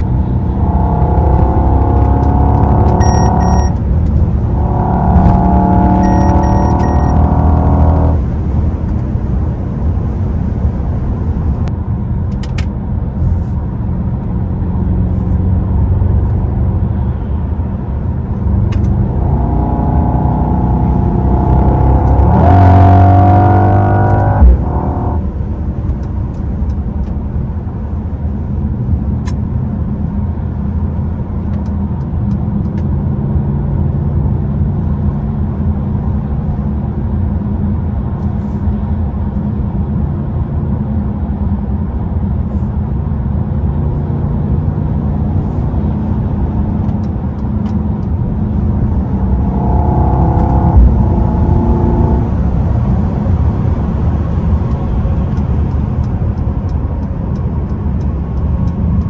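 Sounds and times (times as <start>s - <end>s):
car engine drone in cabin: 0.0s - 59.0s
road noise: 0.0s - 59.0s.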